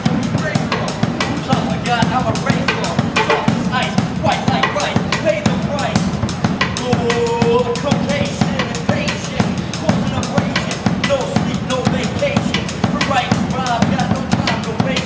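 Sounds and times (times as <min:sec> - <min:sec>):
drum kit playing a busy beat: 0:00.0 - 0:15.0
pitched melody line: 0:00.0 - 0:15.0.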